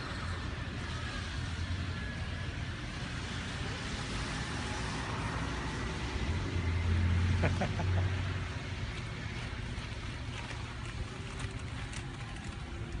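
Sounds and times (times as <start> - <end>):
road traffic noise: 0.0 - 13.0
vehicle low rumble: 0.0 - 13.0.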